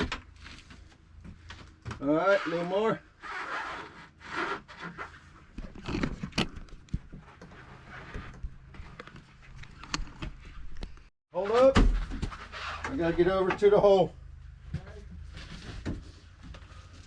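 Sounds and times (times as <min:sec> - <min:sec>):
pipe scraping and rustling: 0:00.0 - 0:10.8, 0:11.4 - 0:13.7, 0:14.5 - 0:17.0.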